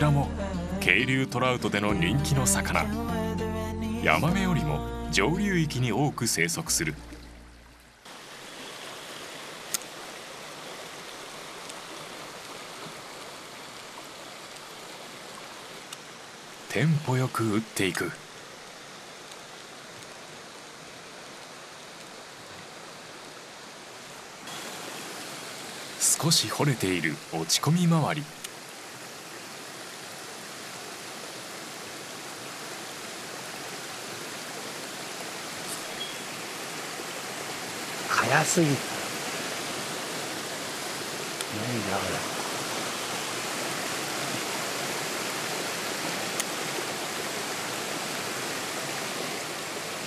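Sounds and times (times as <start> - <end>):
stream rushing over rocks: 4.0 - 50.0.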